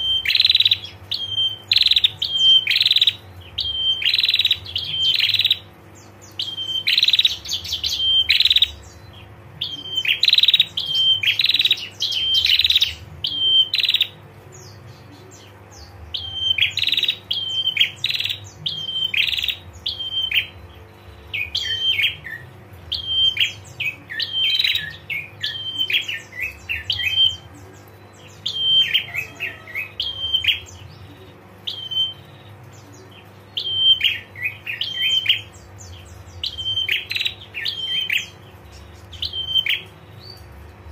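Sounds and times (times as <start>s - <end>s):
bird chirps and chattering trills: 0.0s - 40.9s.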